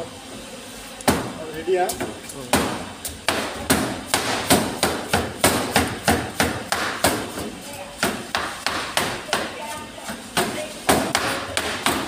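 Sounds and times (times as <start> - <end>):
knife chopping on cutting board: 1.9 - 12.0.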